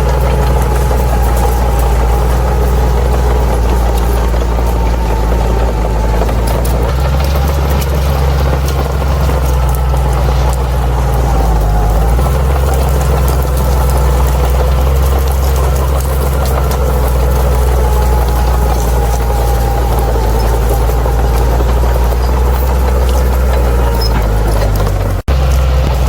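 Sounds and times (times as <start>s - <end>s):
bulldozer diesel engine droning: 0.0s - 26.0s.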